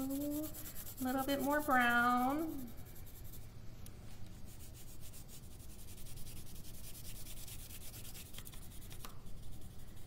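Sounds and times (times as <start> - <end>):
pencil scratching on paper: 0.0 - 3.5, 4.4 - 10.0.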